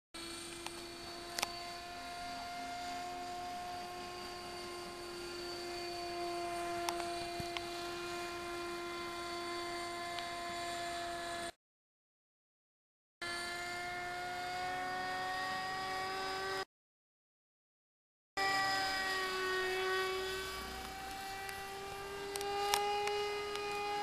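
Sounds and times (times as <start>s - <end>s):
model helicopter motor whine: 0.2s - 11.6s, 13.2s - 16.7s, 18.4s - 24.0s.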